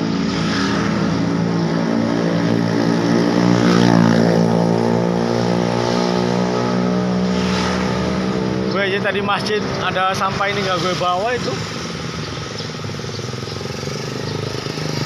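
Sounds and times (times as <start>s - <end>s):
vehicle engines running: 0.0s - 15.0s
vehicle passing: 0.0s - 15.0s.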